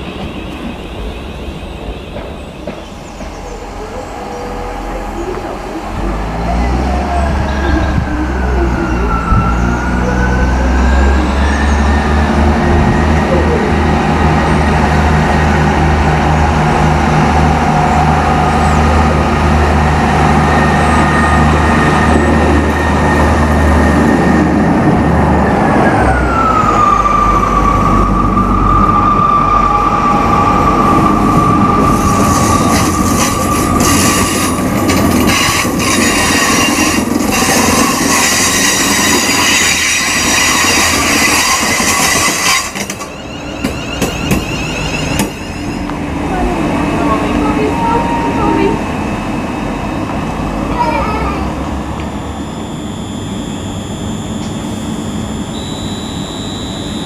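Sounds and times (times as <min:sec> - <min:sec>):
train engine rumble and whine: 0:00.0 - 0:57.0.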